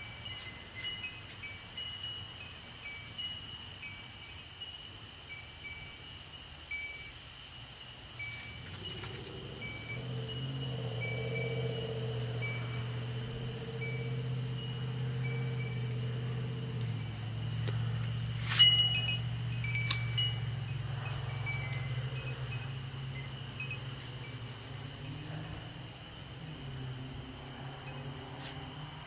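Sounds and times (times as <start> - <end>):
wind chimes ringing: 0.0 - 7.1, 8.2 - 16.6, 17.2 - 25.2.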